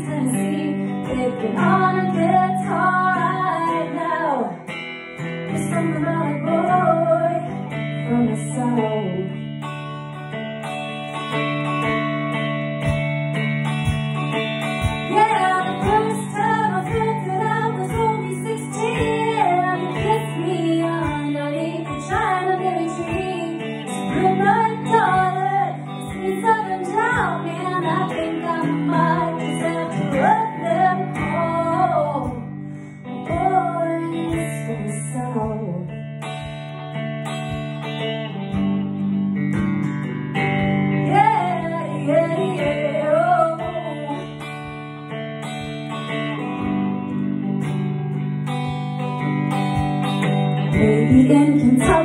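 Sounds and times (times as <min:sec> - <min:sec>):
electric guitar playing: 0:00.0 - 0:52.0.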